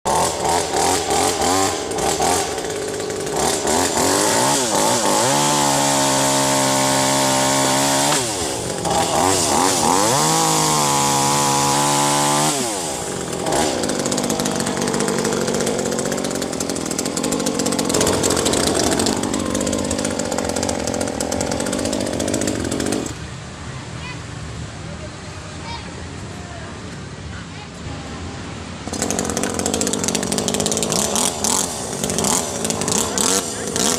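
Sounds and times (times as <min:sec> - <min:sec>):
chainsaw engine revving: 0:00.1 - 0:23.2, 0:28.8 - 0:33.9.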